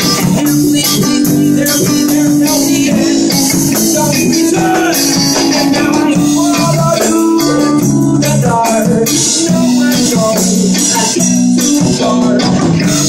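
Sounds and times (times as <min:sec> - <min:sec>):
bass guitar: 0:00.0 - 0:13.0
drum kit with cymbals: 0:00.0 - 0:13.0
electric guitar: 0:00.0 - 0:13.0.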